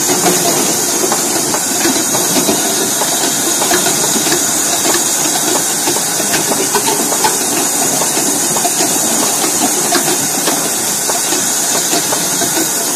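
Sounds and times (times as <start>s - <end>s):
machine mechanical hiss: 0.0s - 12.9s
plastic bottles knocking on conveyor: 0.0s - 12.9s.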